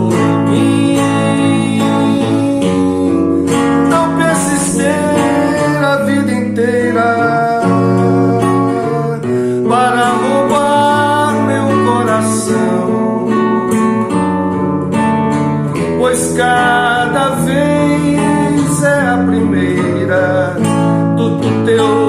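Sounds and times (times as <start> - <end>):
person singing: 0.0 - 14.0, 15.6 - 22.0
acoustic guitar playing: 0.0 - 22.0.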